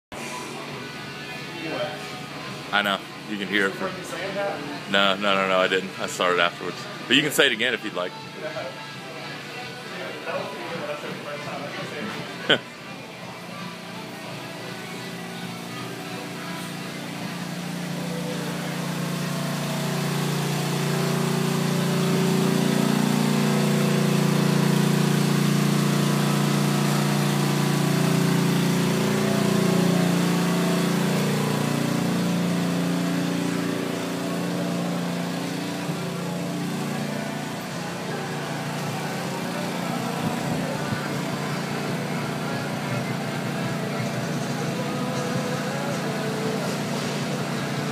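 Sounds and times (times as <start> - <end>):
generator engine running: 0.1 - 47.9.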